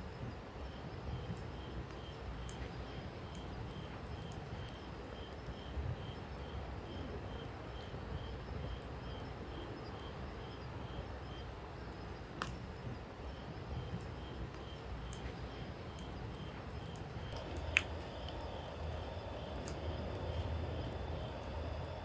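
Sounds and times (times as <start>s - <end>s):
cricket chirping: 0.0s - 22.0s
campfire crackling: 0.1s - 22.0s.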